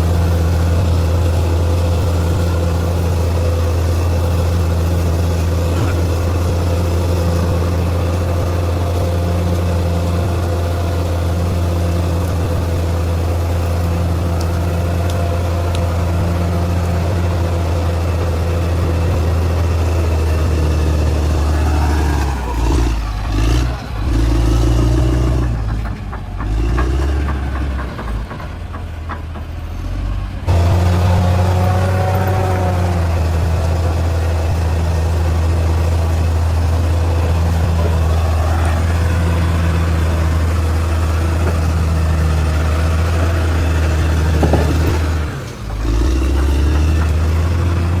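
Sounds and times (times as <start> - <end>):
heavy machinery engine droning: 0.0 - 48.0.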